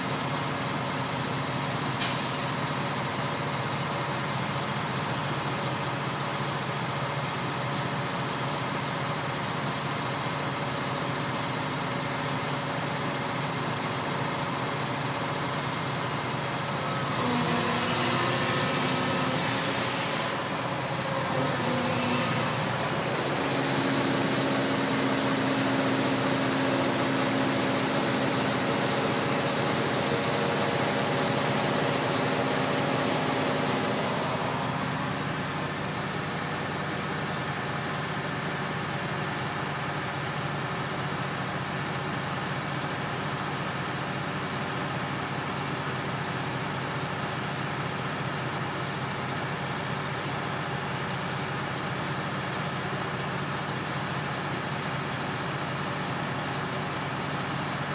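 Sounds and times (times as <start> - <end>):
heavy engine running: 0.0 - 57.9.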